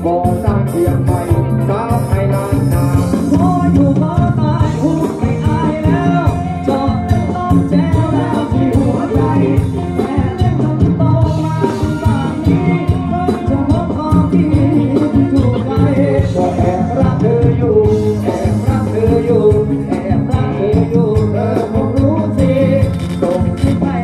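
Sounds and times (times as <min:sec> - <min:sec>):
drum kit beat: 0:00.0 - 0:24.0
guitar: 0:00.0 - 0:24.0
person singing: 0:00.0 - 0:24.0.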